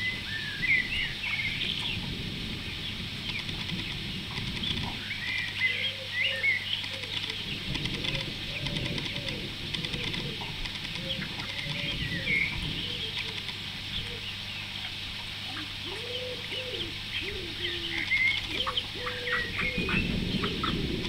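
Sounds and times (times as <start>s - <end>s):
lower longer arching calls: 0.0s - 21.0s
chicks peeping: 3.2s - 21.0s.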